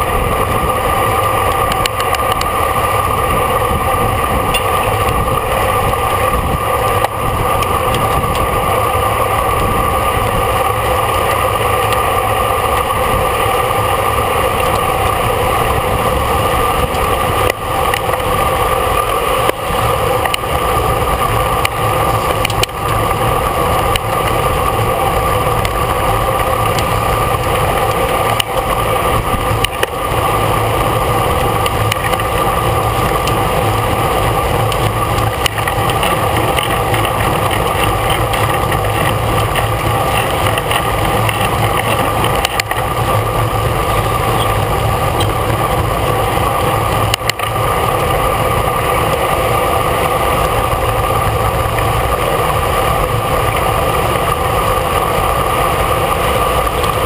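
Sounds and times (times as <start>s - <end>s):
constant hum: 0.0s - 57.0s
road rumble: 0.0s - 57.0s
wind rush on microphone: 0.0s - 57.0s.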